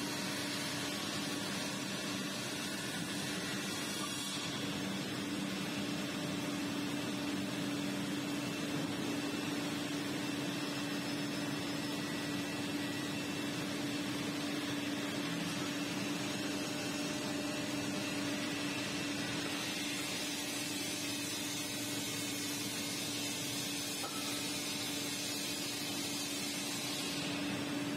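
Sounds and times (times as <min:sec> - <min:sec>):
factory machinery humming: 0:00.0 - 0:27.9.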